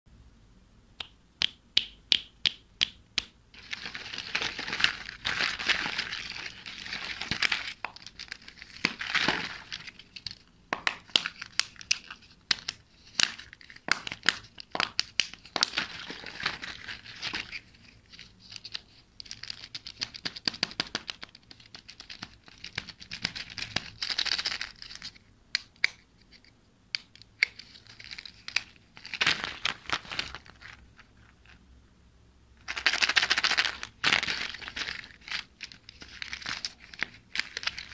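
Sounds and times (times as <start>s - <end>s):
plastic wrapping crinkling and tearing: 3.6s - 25.2s, 27.4s - 31.6s, 32.6s - 37.9s.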